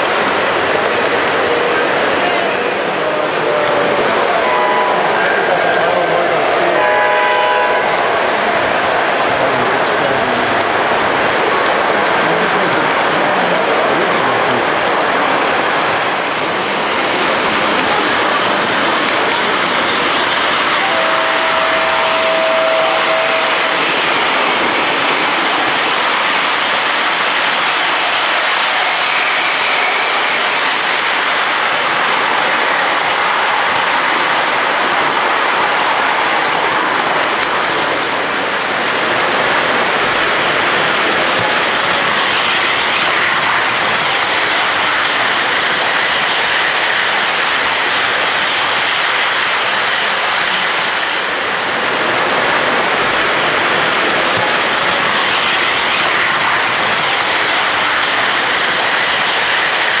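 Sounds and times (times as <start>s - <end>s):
model train wheels rushing on track: 0.0s - 60.0s.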